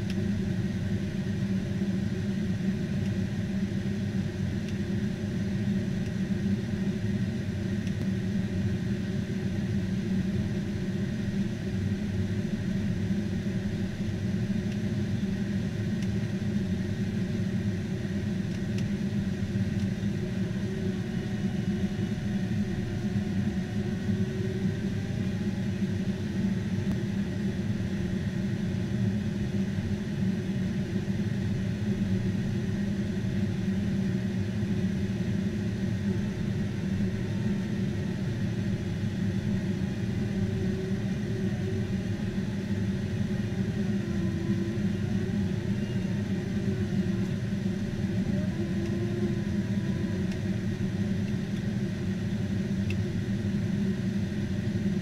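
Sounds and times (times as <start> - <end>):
aircraft engine and airflow rumble: 0.0 - 55.0.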